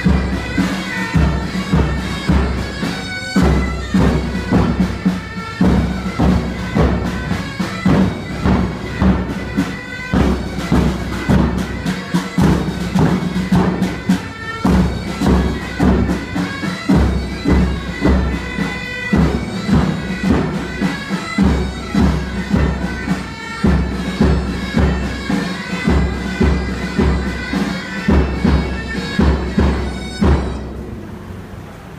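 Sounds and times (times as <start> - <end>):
bagpipes playing a march: 0.0 - 30.8
even drumbeat: 0.0 - 31.2.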